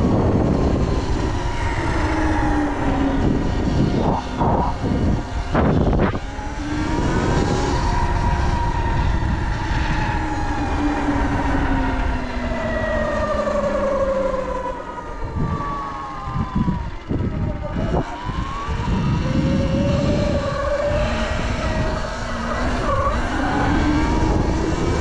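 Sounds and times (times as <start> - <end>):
electric motor whining: 0.0 - 25.0
wind rumble on microphone: 0.0 - 25.0.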